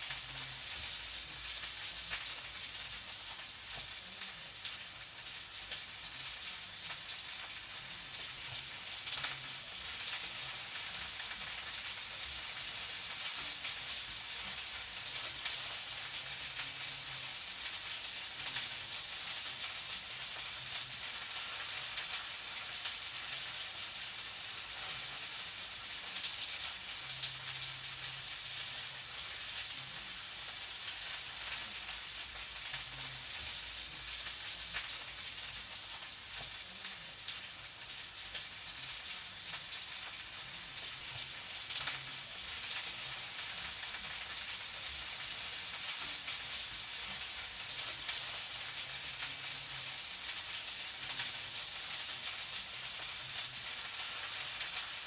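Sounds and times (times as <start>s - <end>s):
food frying with crackling sizzle: 0.0s - 55.0s
small pops of frying: 0.0s - 55.0s.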